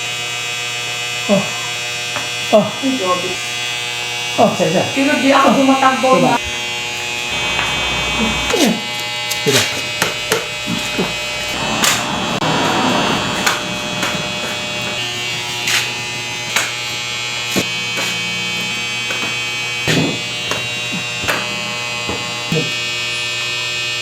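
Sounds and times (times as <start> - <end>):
massager motor buzzing hum: 0.0 - 11.6, 13.7 - 24.0.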